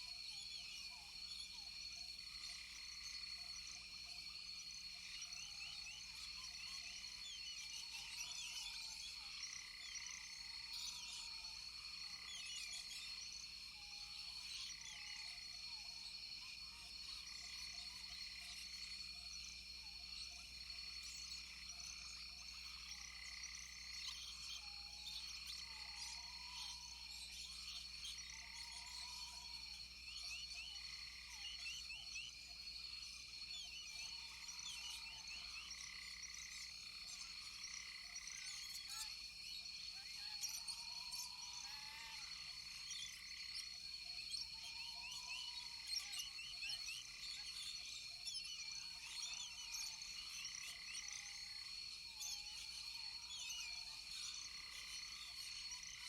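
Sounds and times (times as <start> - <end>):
high-pitched insect drone: 0.1 - 56.0.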